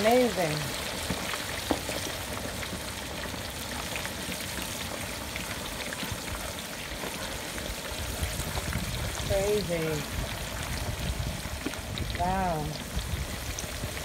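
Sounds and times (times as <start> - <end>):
hot oil bubbling and sizzling: 0.0 - 14.0.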